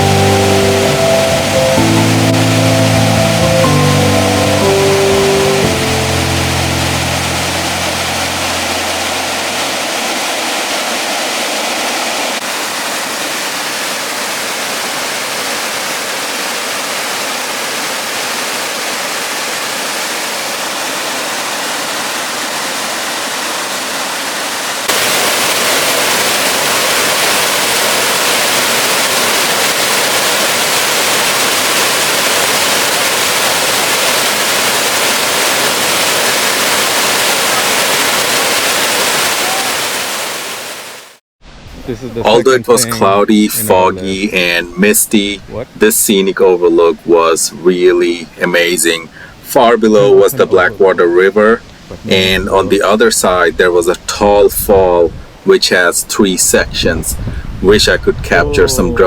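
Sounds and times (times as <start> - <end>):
waterfall rushing: 0.0 - 57.7.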